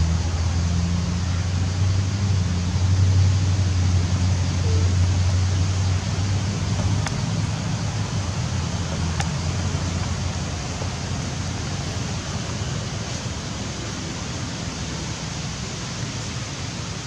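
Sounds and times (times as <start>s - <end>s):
outdoor rushing noise: 0.0s - 17.0s.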